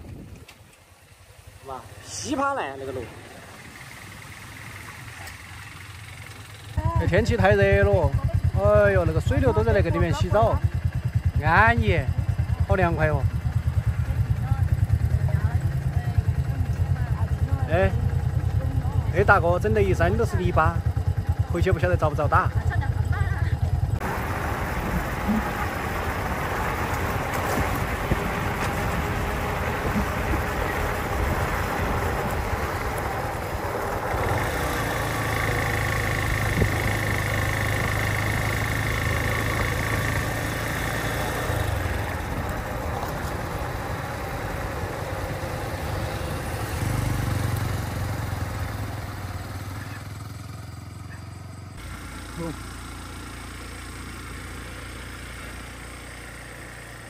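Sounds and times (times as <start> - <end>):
road and wind noise: 0.0 - 57.0
vehicle engine hum: 0.0 - 57.0.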